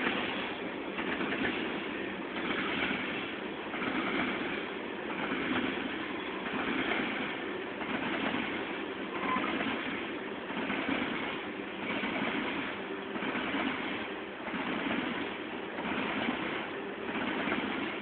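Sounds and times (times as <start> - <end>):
freight train wheels clattering: 0.0 - 18.0.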